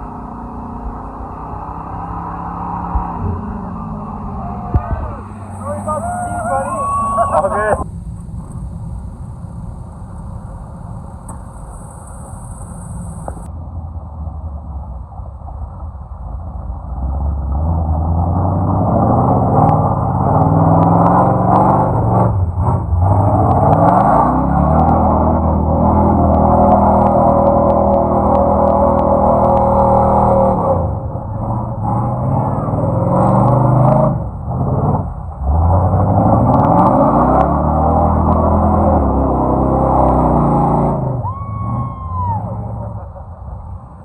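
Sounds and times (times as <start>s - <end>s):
vehicle engine revving: 0.0s - 13.5s, 16.8s - 44.0s.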